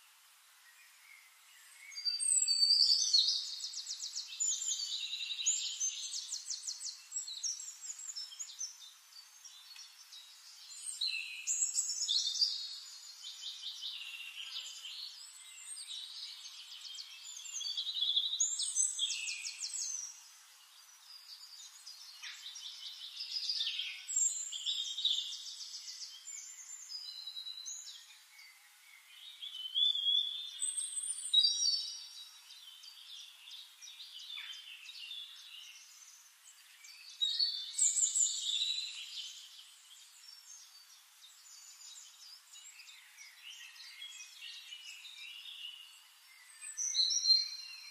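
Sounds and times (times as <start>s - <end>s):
songbirds trilling and chirping: 0.0s - 47.9s.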